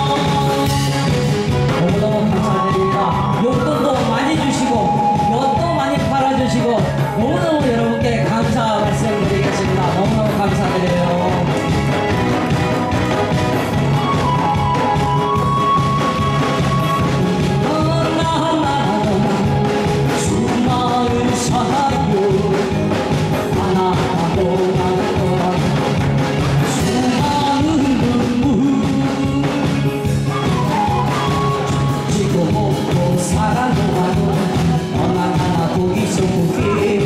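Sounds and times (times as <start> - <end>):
person singing: 0.0 - 13.0, 13.9 - 37.0
music with steady beat: 0.0 - 37.0.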